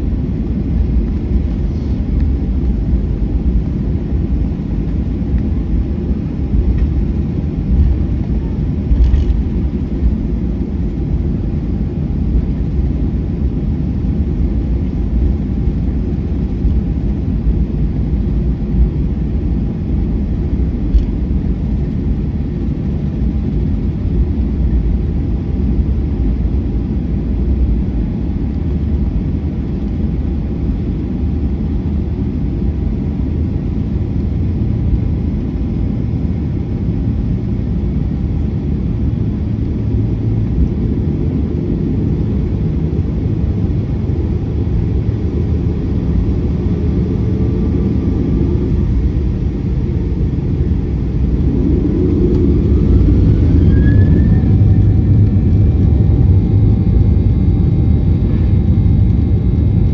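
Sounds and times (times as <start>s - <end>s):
aircraft cabin low rumble: 0.0s - 59.9s
faint steady hum: 0.0s - 59.9s.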